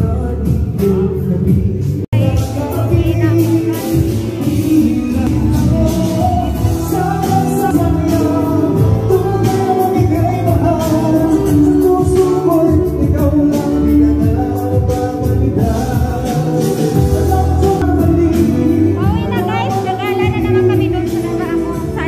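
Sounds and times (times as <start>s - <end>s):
drums: 0.0s - 22.0s
guitar: 0.0s - 22.0s
live band playing amplified music: 0.0s - 22.0s
person singing: 0.0s - 22.0s.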